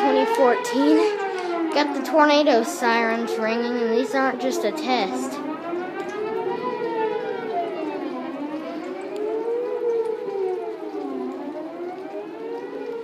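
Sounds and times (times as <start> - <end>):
warning sirens wailing: 0.0 - 13.0.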